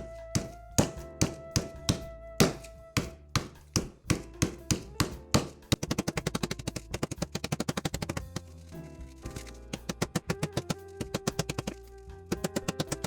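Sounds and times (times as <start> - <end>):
meat being pounded flat: 0.0 - 13.0.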